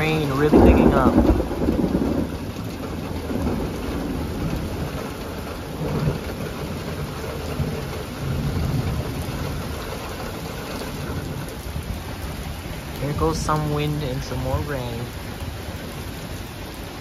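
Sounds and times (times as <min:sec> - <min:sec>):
heavy rain falling: 0:00.0 - 0:17.0
low thunder rumbles: 0:00.0 - 0:17.0.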